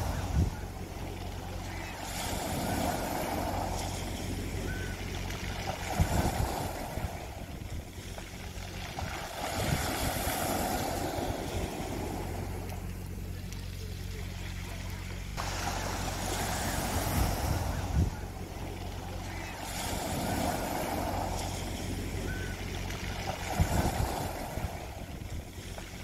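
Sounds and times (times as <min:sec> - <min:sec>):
low steady hum: 0:00.0 - 0:26.0
waves on pebble beach: 0:00.0 - 0:26.0.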